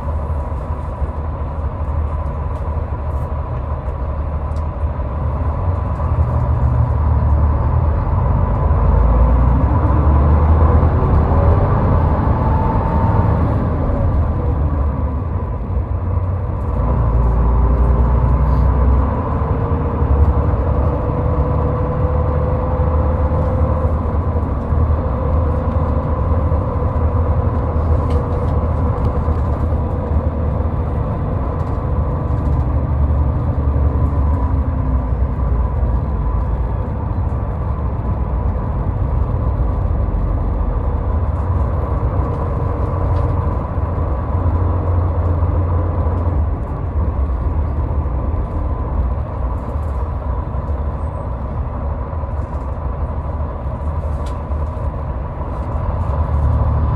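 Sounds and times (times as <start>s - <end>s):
car driving at highway speed: 0.0s - 56.9s.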